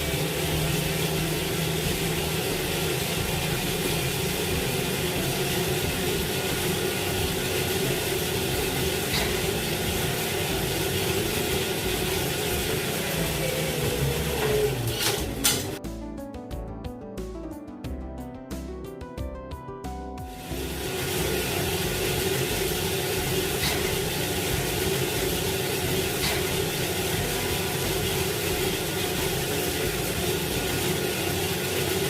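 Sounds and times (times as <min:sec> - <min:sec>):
bike trainer whirring: 0:00.0 - 0:15.8, 0:20.3 - 0:32.0.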